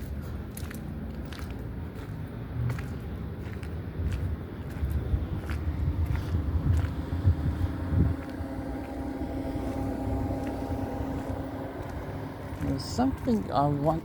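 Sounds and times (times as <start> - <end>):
vehicle engine humming: 0.0 - 14.0
wind rumble on microphone: 0.0 - 14.0.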